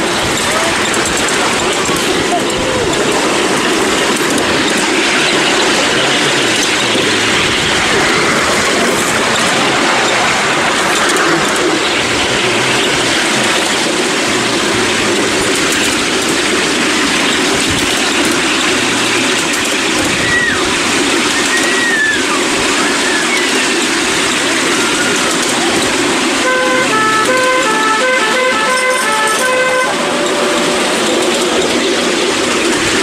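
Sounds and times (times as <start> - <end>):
train wheels clattering on rails: 0.0 - 33.0
wheel squeals: 0.0 - 33.0.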